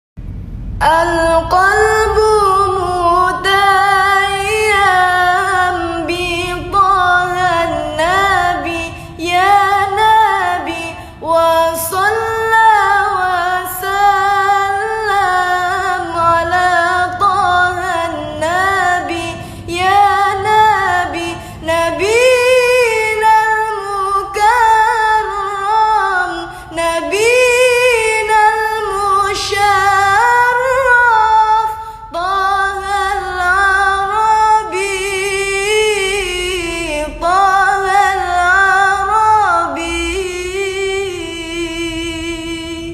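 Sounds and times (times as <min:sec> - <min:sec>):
woman singing: 0:00.8 - 0:42.9.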